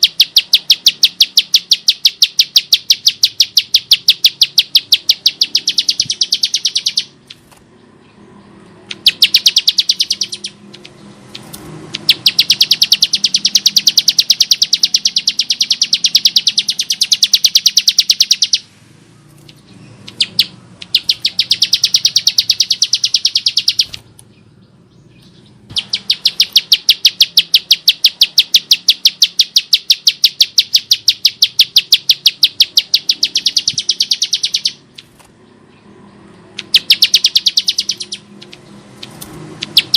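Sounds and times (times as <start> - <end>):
bird rattling trills: 0.0 - 7.6, 8.9 - 18.6, 19.4 - 24.2, 25.7 - 35.4, 36.5 - 39.9.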